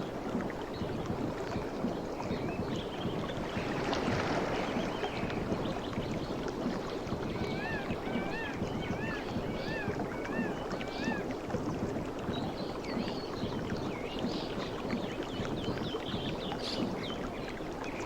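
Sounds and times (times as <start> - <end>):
sea water lapping: 0.0 - 18.0.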